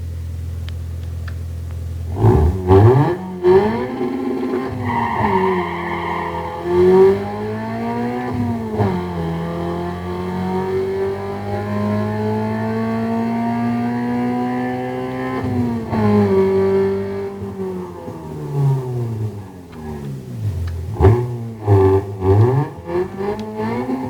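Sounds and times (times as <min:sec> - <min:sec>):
car engine accelerating: 0:00.6 - 0:24.0.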